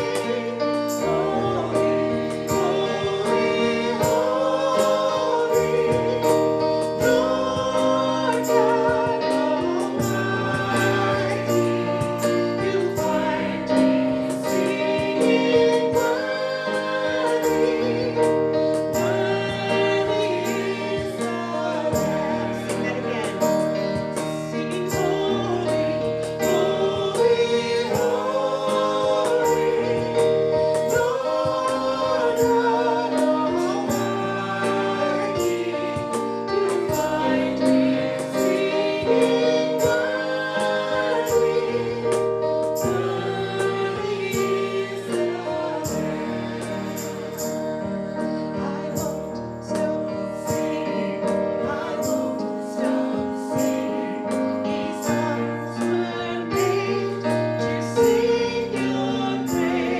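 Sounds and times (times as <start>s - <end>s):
group singing a hymn: 0.0s - 59.9s
instrumental accompaniment: 0.0s - 59.9s.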